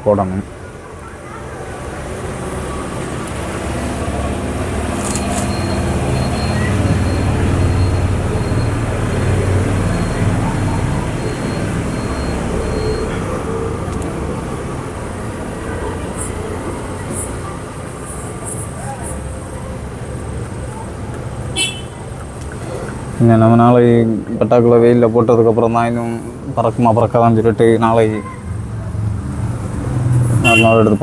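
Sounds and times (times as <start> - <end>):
passing vehicle engine rumble: 0.5 - 31.0.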